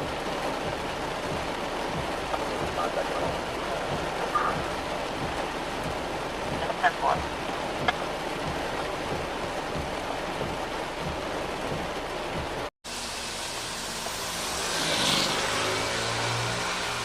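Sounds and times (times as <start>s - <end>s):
car passing on wet street: 0.0s - 17.0s
heavy rain hiss: 0.0s - 17.0s.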